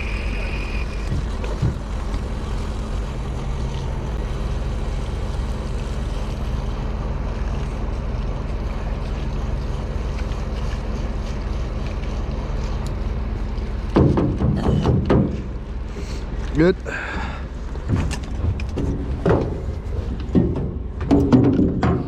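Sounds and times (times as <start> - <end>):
large engine running steadily: 0.0 - 22.0.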